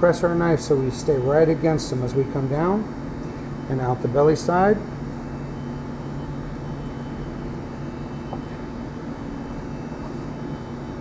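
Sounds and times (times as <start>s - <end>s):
room ventilation hum: 0.0s - 11.0s.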